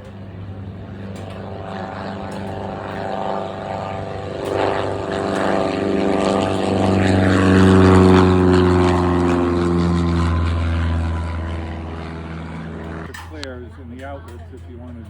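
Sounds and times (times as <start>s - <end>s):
propeller airplane passing: 0.0s - 15.0s.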